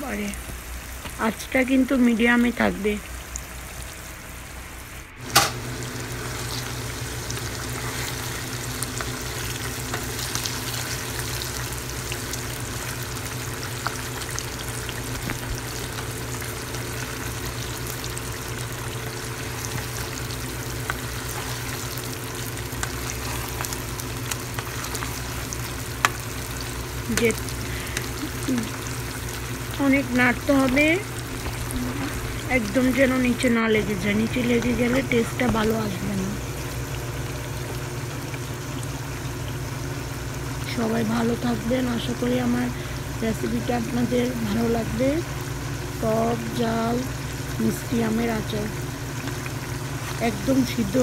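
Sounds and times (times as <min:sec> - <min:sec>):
steady low hum: 0:00.0 - 0:51.0
syrup simmering and sizzling: 0:00.1 - 0:51.0.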